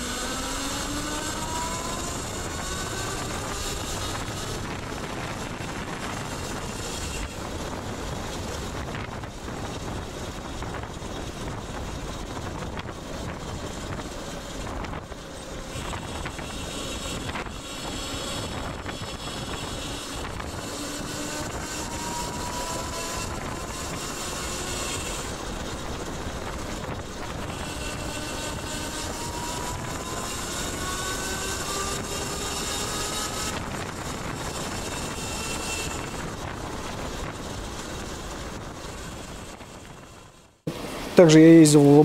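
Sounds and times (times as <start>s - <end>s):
electric bike road noise: 0.0s - 42.0s
wind rushing over microphone: 0.0s - 42.0s.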